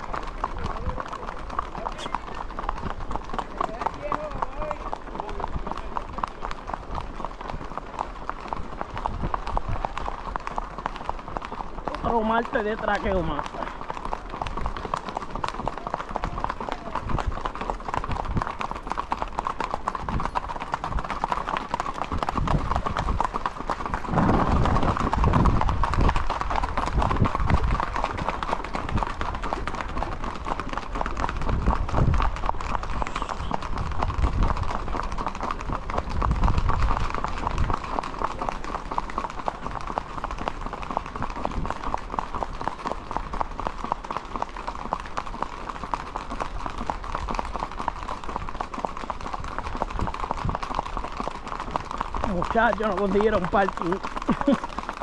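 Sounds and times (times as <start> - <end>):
hooves clip-clopping on pavement: 0.0 - 55.0.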